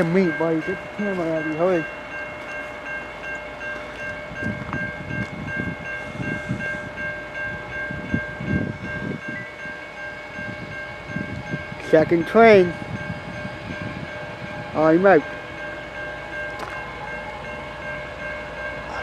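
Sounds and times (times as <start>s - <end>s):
railroad crossing bell ringing: 0.0s - 19.0s.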